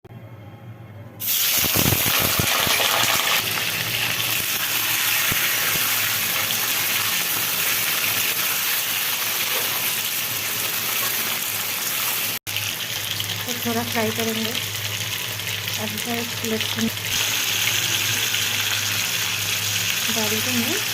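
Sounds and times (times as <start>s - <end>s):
food crackling in hot oil: 1.2s - 20.9s
frying sizzle: 1.2s - 20.9s.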